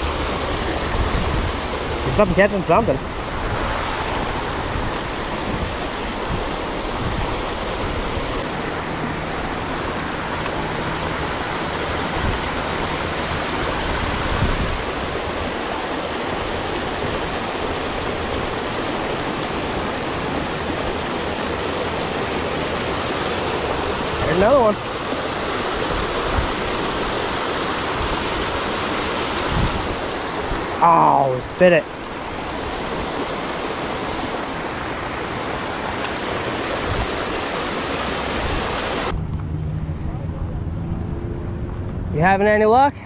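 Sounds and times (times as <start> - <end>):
creek water rushing: 0.0 - 39.8.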